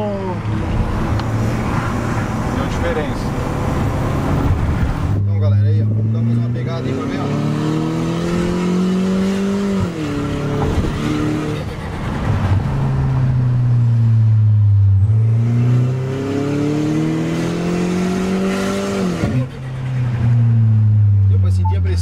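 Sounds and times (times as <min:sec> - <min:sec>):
car engine accelerating through gears: 0:00.0 - 0:21.4.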